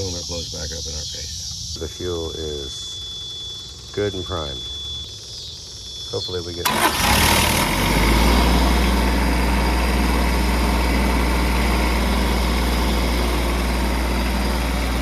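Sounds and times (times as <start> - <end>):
diesel engine running: 1.8 - 15.0.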